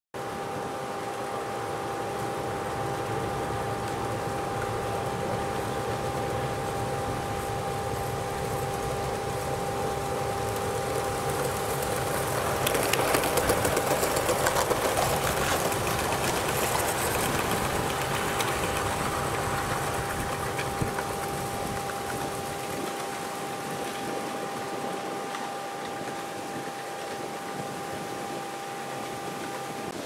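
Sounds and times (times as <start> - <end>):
model steam locomotive chuffing: 0.3 - 30.0
wheel clatter: 2.1 - 30.0.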